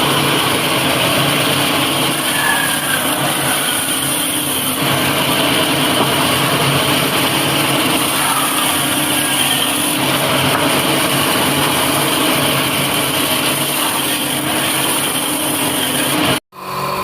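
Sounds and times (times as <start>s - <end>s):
woodworking machine whirring: 0.0s - 17.0s.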